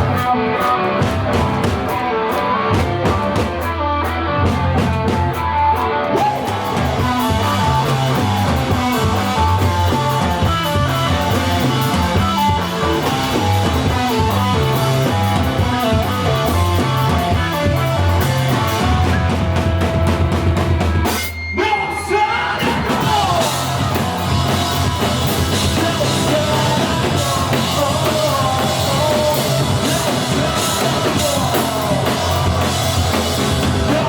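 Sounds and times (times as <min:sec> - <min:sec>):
bass line: 0:00.0 - 0:34.0
drum kit: 0:00.0 - 0:34.0
guitar lines: 0:00.0 - 0:34.0.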